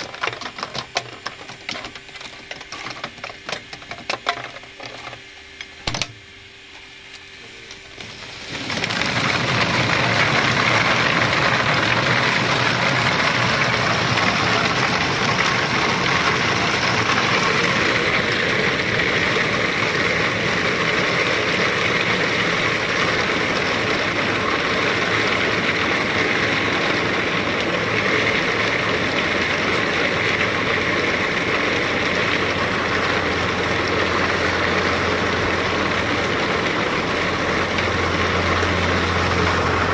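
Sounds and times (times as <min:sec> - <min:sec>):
walnut hulling machine churning: 0:00.0 - 0:39.9.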